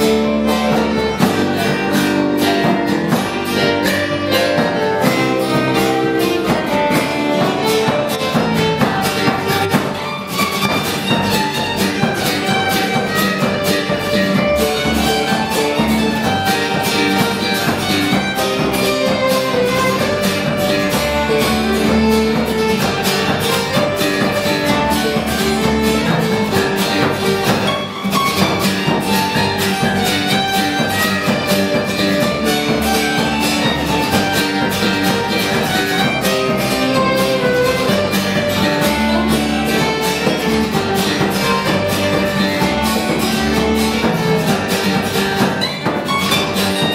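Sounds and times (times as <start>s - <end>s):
bass guitar: 0.0s - 46.9s
frame drum beat: 0.0s - 46.9s
mandolin: 0.0s - 46.9s
strummed acoustic guitar: 0.0s - 46.9s
violin playing tune: 0.0s - 46.9s.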